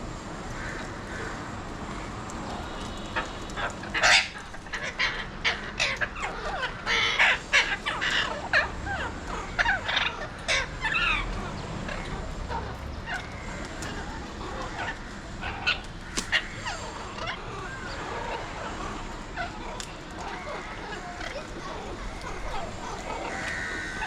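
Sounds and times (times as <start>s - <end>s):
parakeets calling harshly: 0.6s - 24.0s.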